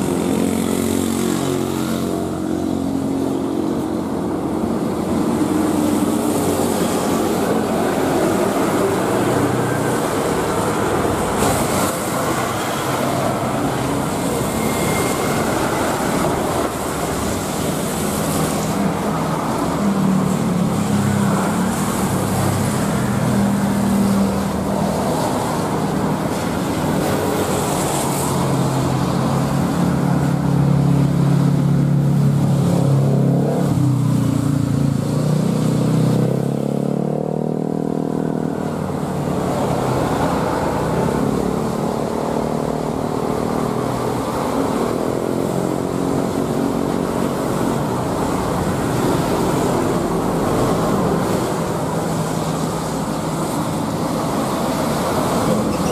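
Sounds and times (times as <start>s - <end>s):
jet engines roaring: 0.0s - 35.4s, 38.0s - 55.9s.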